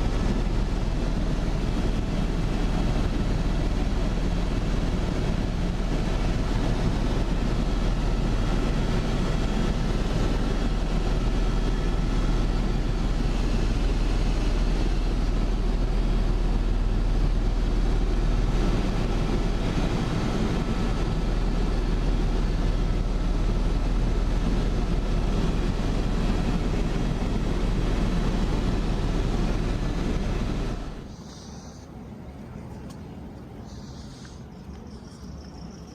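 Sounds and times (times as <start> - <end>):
helicopter engine and rotor drone: 0.0 - 34.3.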